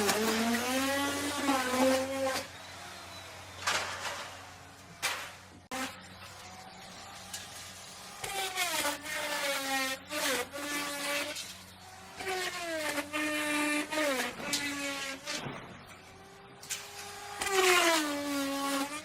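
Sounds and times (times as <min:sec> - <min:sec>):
electric wood router running: 0:00.0 - 0:03.8, 0:04.4 - 0:19.0.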